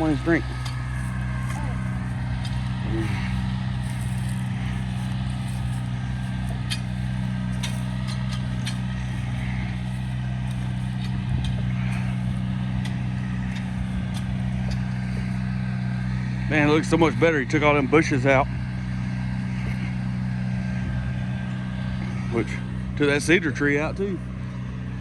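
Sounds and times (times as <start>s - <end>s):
vehicle engine running steadily: 0.0s - 25.0s.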